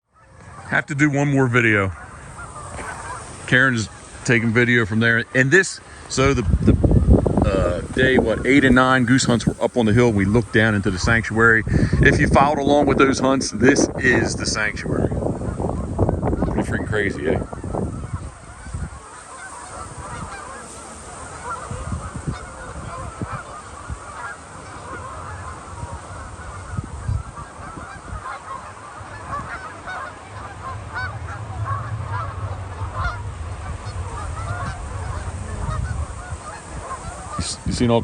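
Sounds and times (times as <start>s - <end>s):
geese honking: 0.0s - 38.0s.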